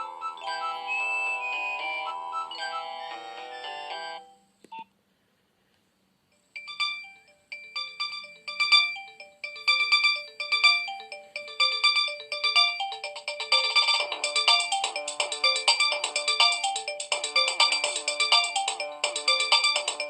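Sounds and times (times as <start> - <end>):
phone electronic ringtones: 0.0 - 4.4, 6.6 - 20.0.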